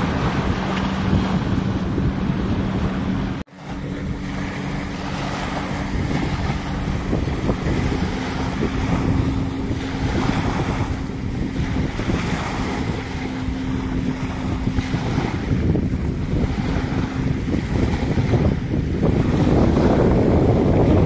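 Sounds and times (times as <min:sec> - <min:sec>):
small waves breaking on sand: 0:00.0 - 0:21.0
wind buffeting microphone: 0:00.0 - 0:21.0.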